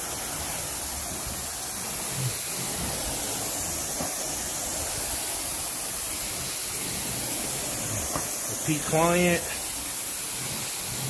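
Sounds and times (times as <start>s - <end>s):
carpet cleaner spray and suction: 0.0s - 11.0s.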